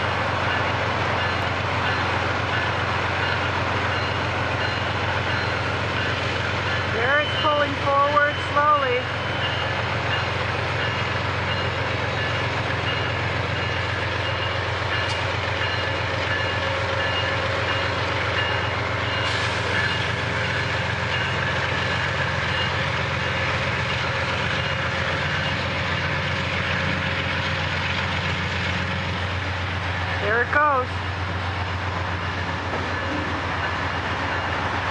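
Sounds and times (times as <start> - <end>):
diesel locomotive engine throbbing: 0.0 - 34.9.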